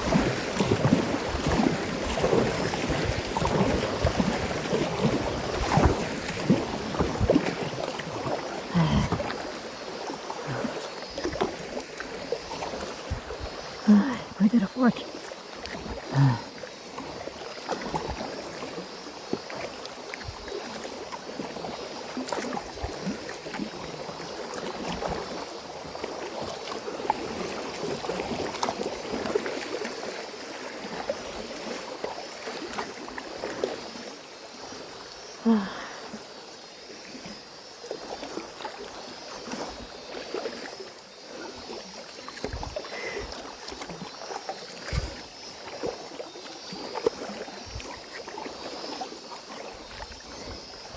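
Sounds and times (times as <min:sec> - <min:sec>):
water splashing and flowing: 0:00.0 - 0:50.9.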